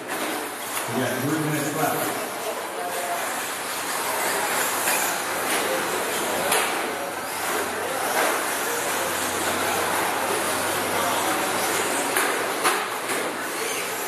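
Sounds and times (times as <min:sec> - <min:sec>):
rc truck motors whirring: 0:02.4 - 0:14.0.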